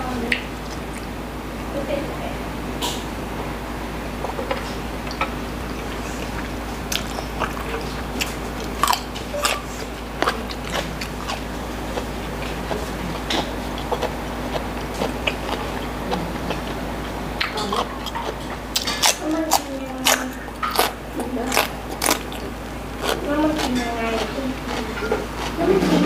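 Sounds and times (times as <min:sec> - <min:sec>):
chewing crunchy celery: 0:04.2 - 0:26.0.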